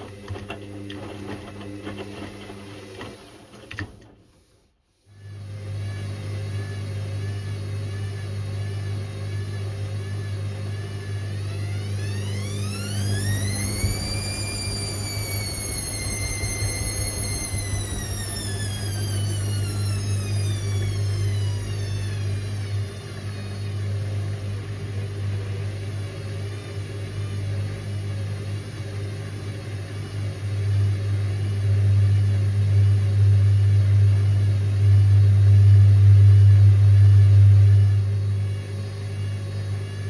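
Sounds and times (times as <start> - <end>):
washing machine running: 0.0 - 40.0.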